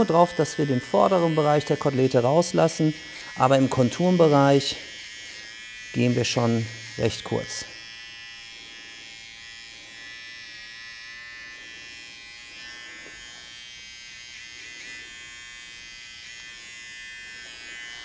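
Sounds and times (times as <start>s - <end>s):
electric hair trimmer buzzing: 0.0s - 18.0s.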